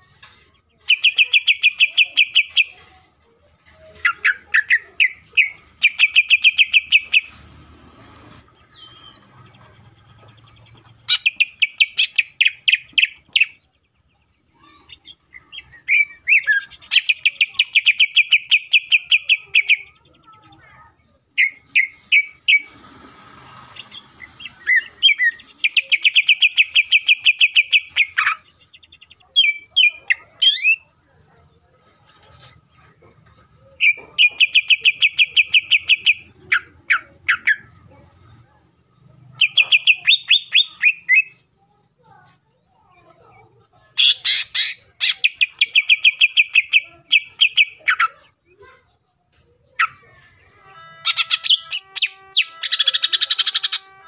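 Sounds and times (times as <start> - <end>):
bird singing rapid repeated notes: 0.6 - 2.8, 4.0 - 7.4, 8.4 - 22.8, 23.8 - 31.0, 33.5 - 49.0, 49.6 - 54.0.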